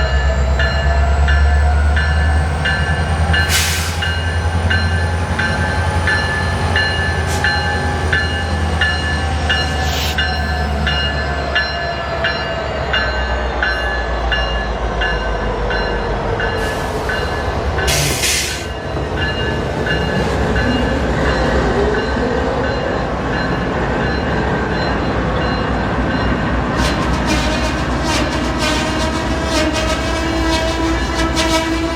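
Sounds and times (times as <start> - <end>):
deep train rumble: 0.0 - 31.9.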